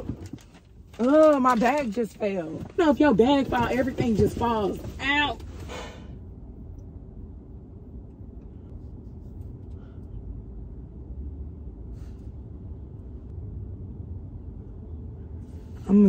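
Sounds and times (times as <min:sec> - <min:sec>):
air conditioning fan humming: 0:00.0 - 0:16.0.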